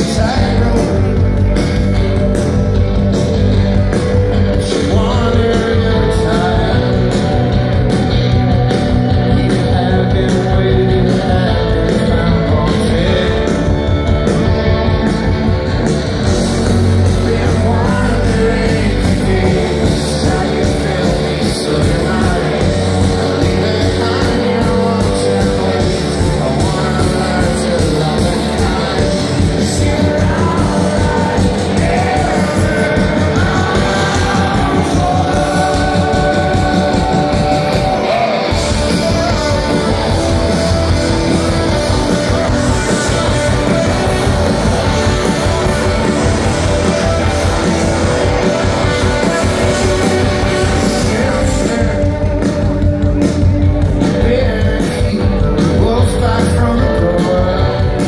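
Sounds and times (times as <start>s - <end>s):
drums: 0.0s - 58.0s
electric guitars: 0.0s - 58.0s
person singing lead vocal: 0.0s - 58.0s.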